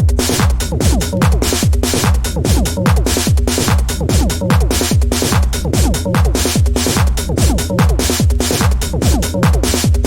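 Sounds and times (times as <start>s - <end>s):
techno drum pattern: 0.0s - 10.0s.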